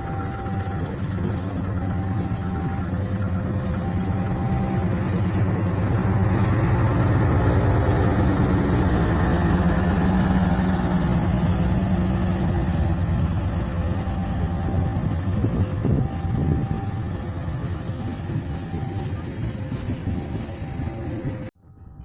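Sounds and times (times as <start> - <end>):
diesel locomotive engine humming: 0.0 - 21.6.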